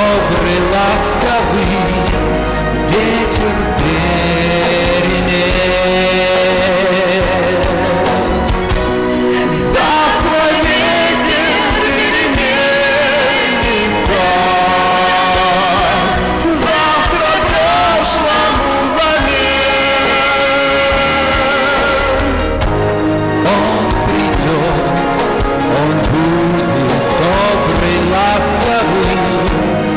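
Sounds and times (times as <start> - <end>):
instrumental backing music: 0.0 - 29.9
person singing with vibrato: 0.0 - 29.9.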